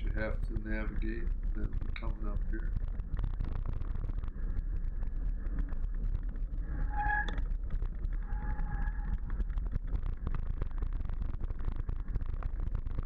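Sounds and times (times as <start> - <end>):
bike tyres rattling on stones: 0.0 - 13.0
wind rumble on camera: 0.0 - 13.0.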